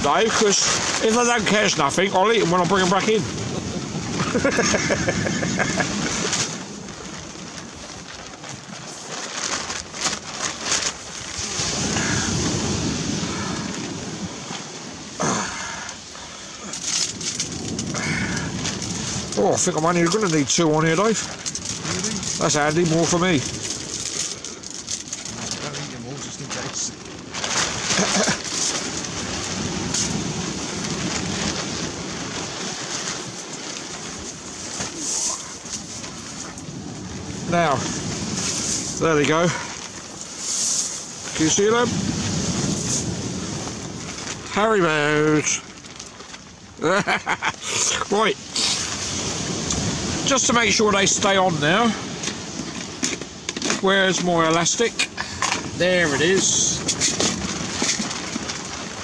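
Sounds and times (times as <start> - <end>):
wind buffeting microphone: 0.0 - 45.8, 48.1 - 59.0
short crackles: 0.0 - 59.0
surf washing: 0.0 - 59.0.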